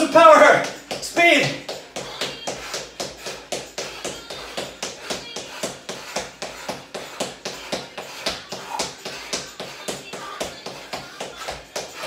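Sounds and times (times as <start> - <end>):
trainers thudding on hard floor: 0.1 - 12.0.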